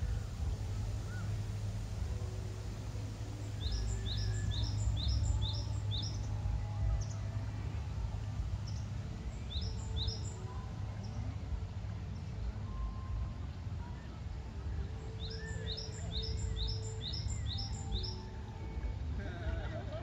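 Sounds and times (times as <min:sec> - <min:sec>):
songbird chirping: 0:00.0 - 0:19.0
low background rumble: 0:00.0 - 0:20.0.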